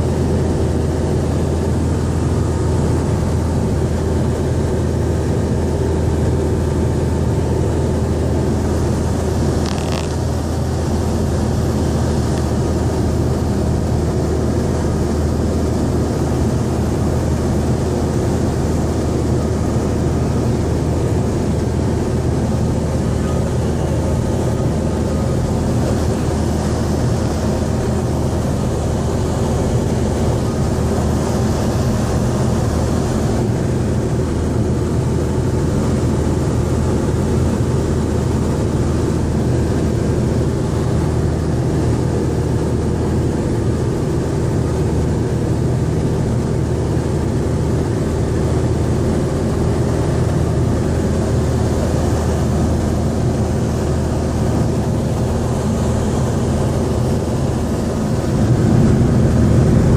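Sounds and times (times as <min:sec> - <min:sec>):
light plane engine drone: 0:00.0 - 0:59.9.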